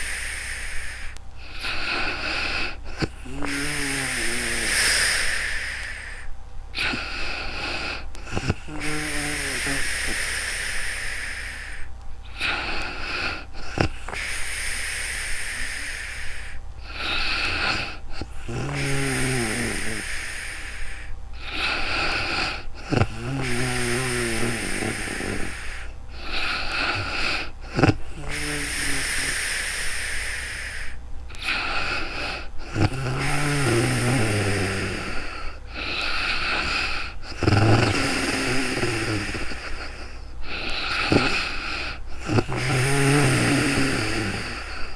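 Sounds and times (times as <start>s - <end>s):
steady low hum: 0.0s - 44.9s
woman snoring: 0.0s - 44.9s.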